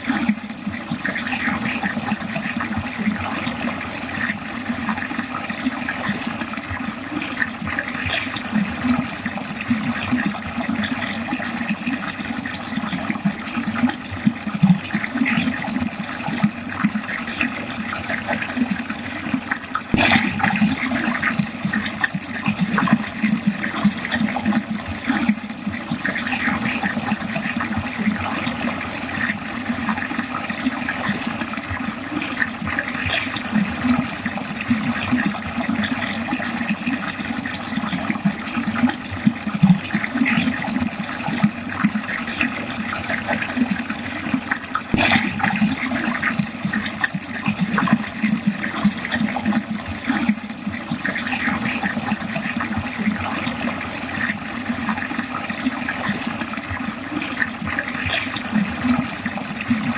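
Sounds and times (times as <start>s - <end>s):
water gurgling down a drain: 0.0s - 59.9s.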